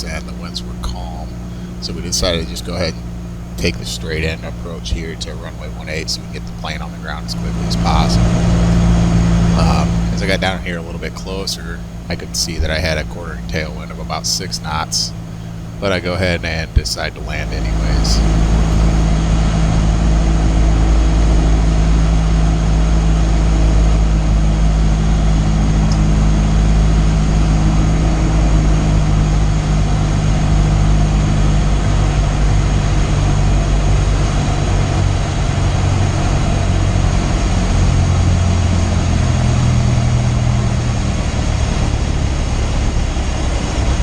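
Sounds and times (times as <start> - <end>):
propeller plane engine droning: 0.0 - 44.0.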